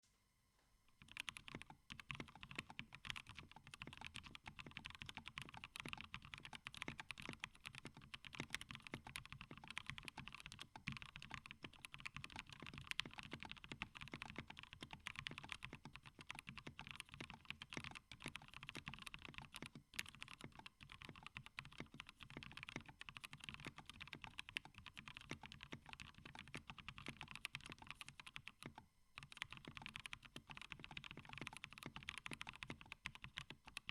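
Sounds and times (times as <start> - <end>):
fast mechanical keyboard typing: 1.0 - 33.9.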